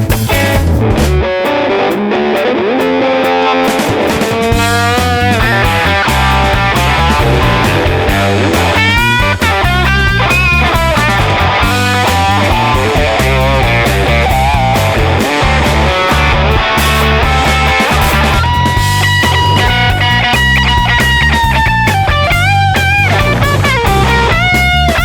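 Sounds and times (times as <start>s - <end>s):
electric guitar lead: 0.0s - 25.0s
rock music: 0.0s - 25.0s.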